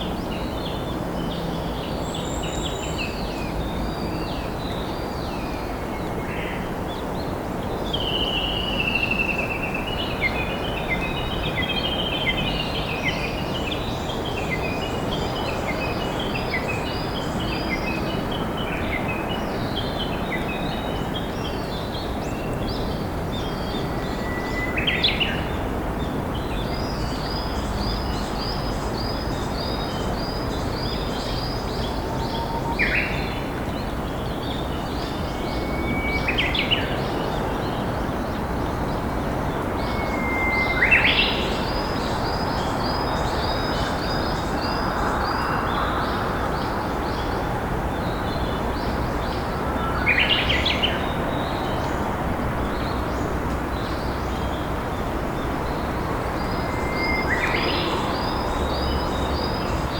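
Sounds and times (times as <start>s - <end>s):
bush warbler singing: 0.0s - 59.9s.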